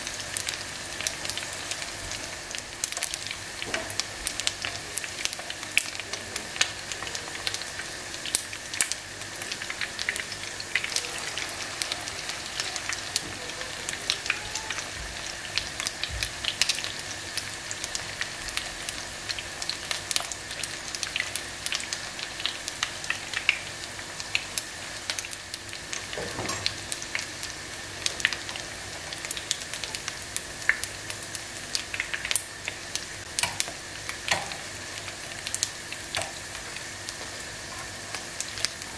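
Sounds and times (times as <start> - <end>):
food sizzling in frying oil: 0.0 - 38.9
spattering oil crackling and popping: 0.3 - 38.9.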